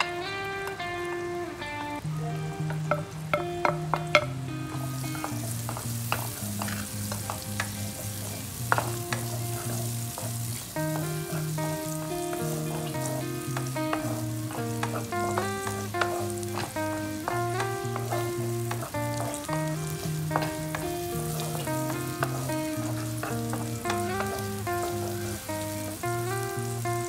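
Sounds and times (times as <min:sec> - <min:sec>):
background music: 0:00.0 - 0:27.0
food sizzling in hot oil: 0:00.0 - 0:27.0
spatula clicking against pan: 0:02.7 - 0:27.0.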